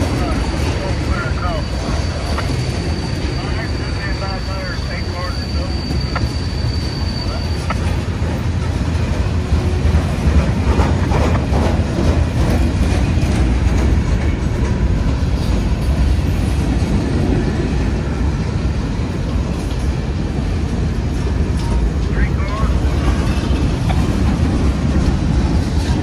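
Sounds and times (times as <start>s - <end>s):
freight train rumbling by: 0.0s - 26.0s.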